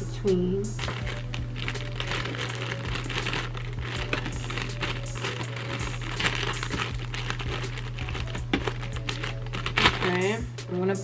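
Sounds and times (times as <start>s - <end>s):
plastic film crinkling: 0.8s - 10.5s.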